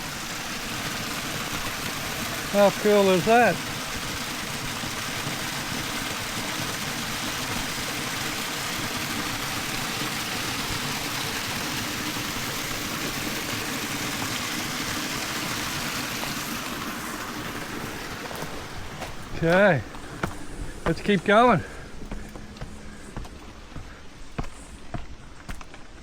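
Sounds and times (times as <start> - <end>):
water rushing over small waterfall: 0.0 - 22.2.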